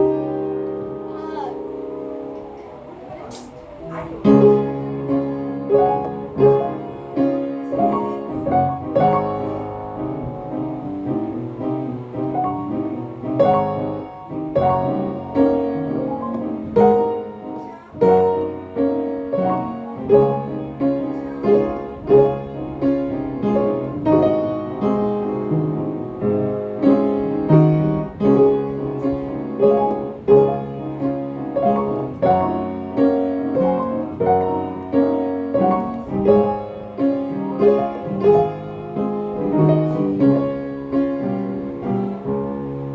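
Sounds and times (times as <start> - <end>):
classical piano music: 0.0 - 42.9.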